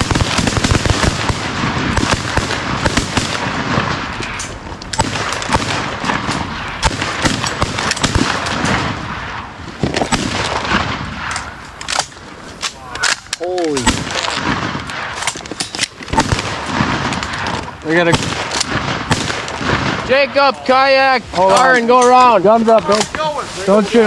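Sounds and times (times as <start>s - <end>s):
shotguns firing volley: 0.0s - 23.8s.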